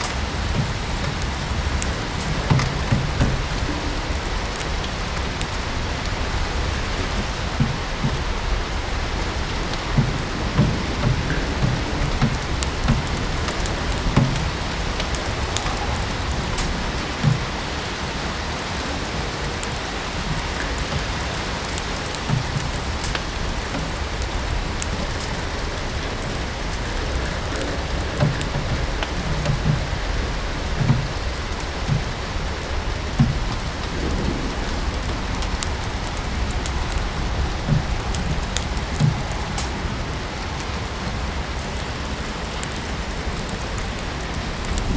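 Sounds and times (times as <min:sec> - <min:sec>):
soft low knocks: 0:00.0 - 0:18.0, 0:20.0 - 0:39.8
steady rain: 0:00.0 - 0:44.9
wood fire crackling: 0:00.0 - 0:44.9.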